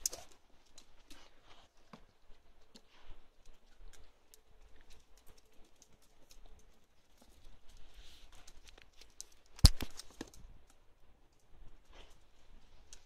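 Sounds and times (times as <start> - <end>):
puppy claws clicking on concrete: 0.0 - 12.2.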